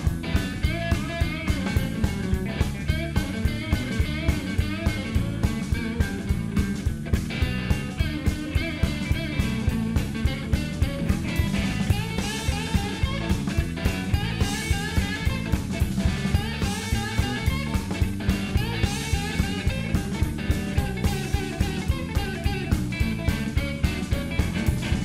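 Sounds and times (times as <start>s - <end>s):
upbeat rock music: 0.0s - 25.0s.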